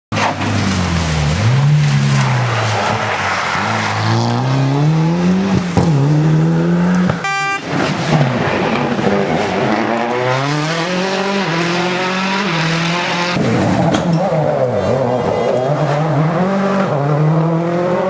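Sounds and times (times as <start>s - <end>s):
rally car engine accelerating: 0.2s - 18.0s.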